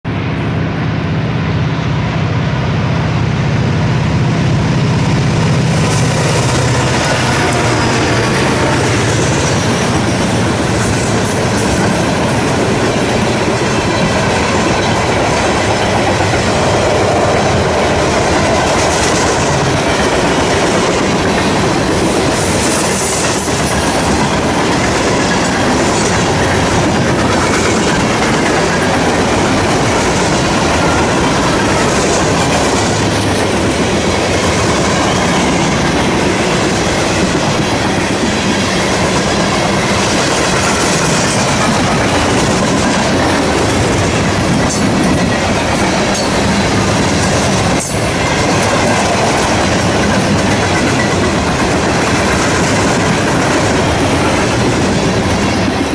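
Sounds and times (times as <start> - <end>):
freight cars rumbling on rails: 0.0 - 55.9.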